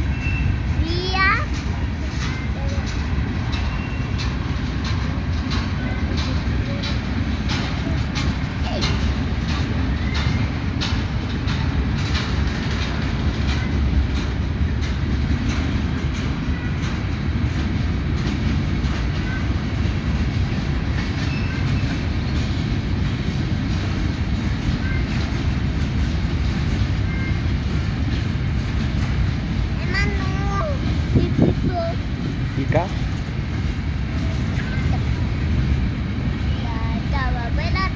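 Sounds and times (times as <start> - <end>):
train wagons rumbling past: 0.0 - 37.9
wheels clicking over rail joints: 0.0 - 37.9.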